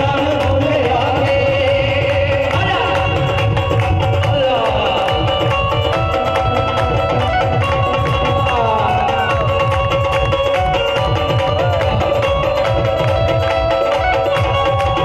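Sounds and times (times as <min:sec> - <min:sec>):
dense drum beats: 0:00.0 - 0:15.0.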